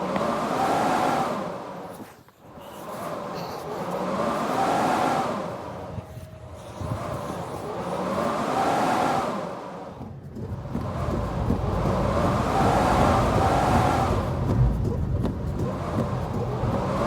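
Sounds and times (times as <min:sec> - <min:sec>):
wind howling and whistling: 0:00.0 - 0:02.1, 0:03.9 - 0:17.0.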